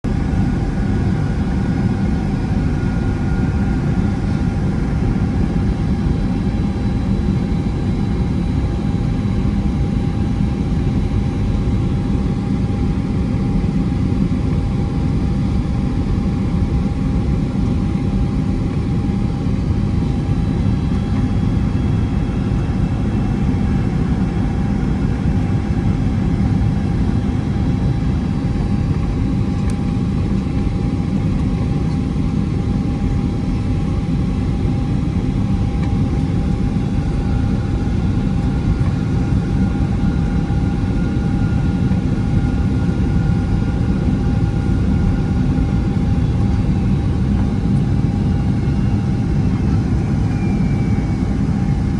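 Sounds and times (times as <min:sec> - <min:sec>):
engine and airflow rumble: 0:00.0 - 0:51.9
steady whine: 0:00.1 - 0:51.9.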